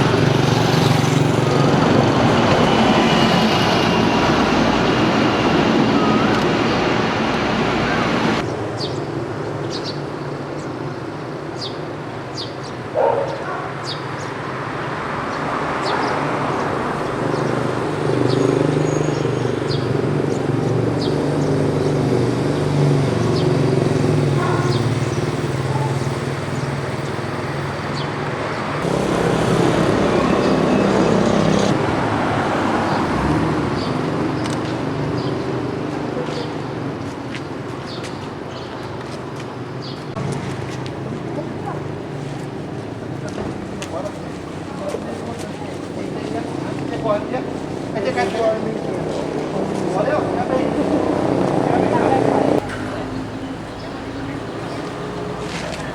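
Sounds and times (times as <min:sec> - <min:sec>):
vehicle engines running: 0:00.0 - 0:13.6, 0:14.4 - 0:55.9.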